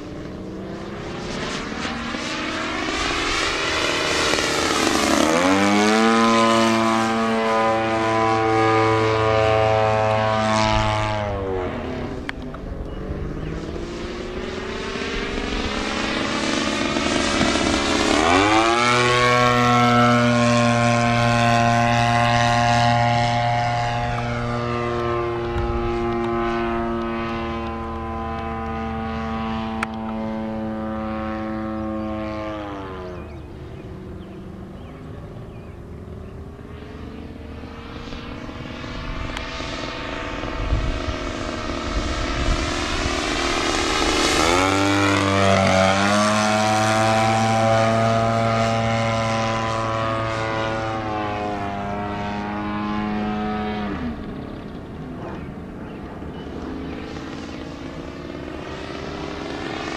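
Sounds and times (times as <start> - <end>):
model airplane engine passing: 0.0 - 59.9.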